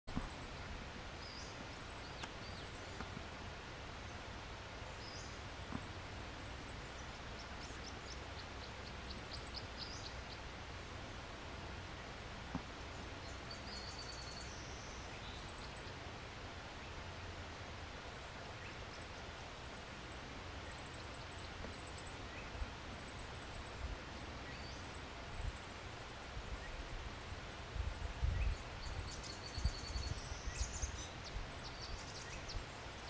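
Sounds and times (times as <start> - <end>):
small birds chirping: 0.1 - 17.2, 17.9 - 33.0
background hiss and rumble: 0.1 - 33.0.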